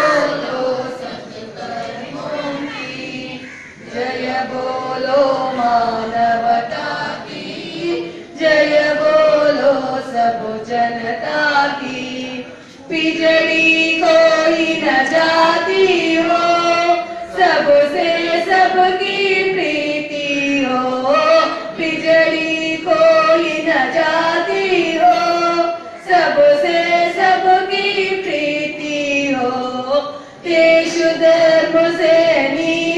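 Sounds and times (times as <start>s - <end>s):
group of children singing: 0.0s - 32.9s.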